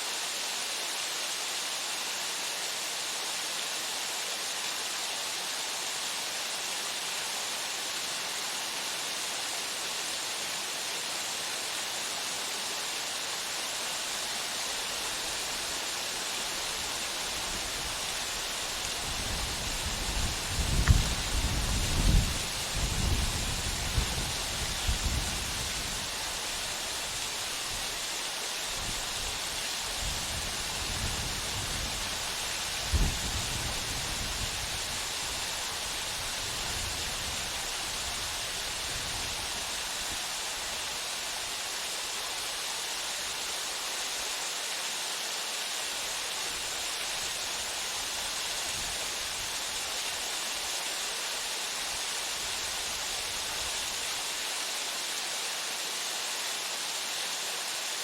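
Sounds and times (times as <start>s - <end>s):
waterfall pouring into pool: 0.0s - 58.0s.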